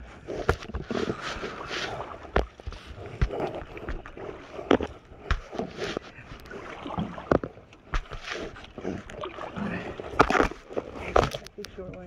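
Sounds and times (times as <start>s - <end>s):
paddles stroking through water: 0.0s - 12.0s
paddle knocking wooden hull: 0.3s - 11.5s.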